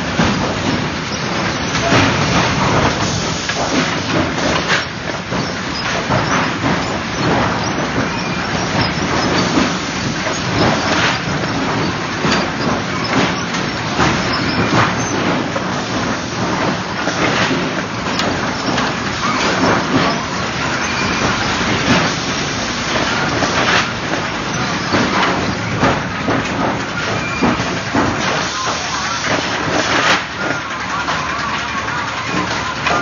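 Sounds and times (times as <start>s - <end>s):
wooden boards clacking: 0.0s - 22.2s, 22.8s - 33.0s
machinery din: 0.0s - 33.0s.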